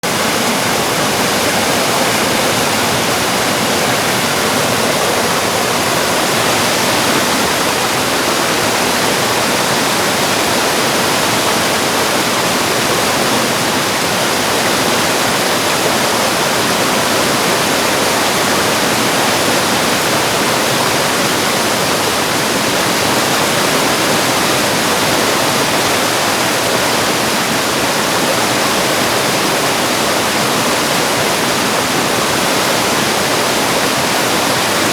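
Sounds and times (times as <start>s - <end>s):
stream rushing: 0.0s - 34.9s.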